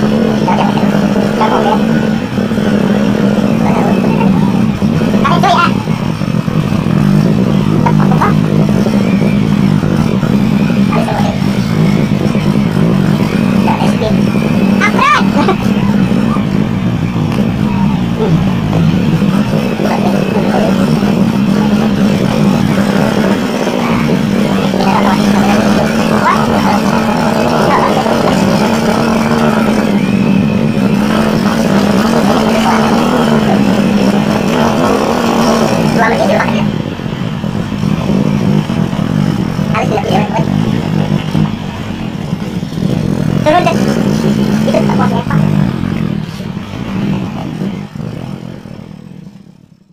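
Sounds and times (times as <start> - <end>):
rough noisy background: 0.0 - 49.9
small motorcycle engine droning: 0.0 - 49.9.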